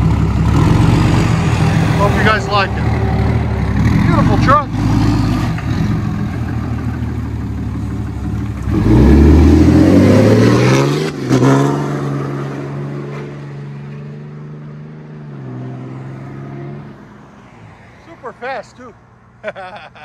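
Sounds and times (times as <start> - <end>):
diesel truck engine idling and revving: 0.0 - 17.2.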